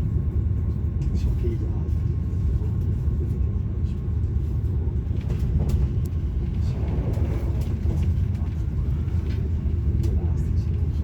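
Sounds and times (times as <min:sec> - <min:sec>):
train cabin rumble: 0:00.0 - 0:11.0.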